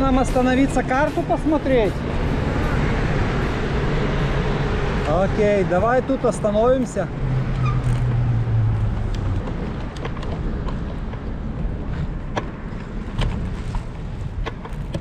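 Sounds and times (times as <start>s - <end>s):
bike rattling over bumps: 0.0s - 15.0s
wind rumbling on microphone: 0.0s - 15.0s
bicycle rolling over asphalt: 1.7s - 15.0s.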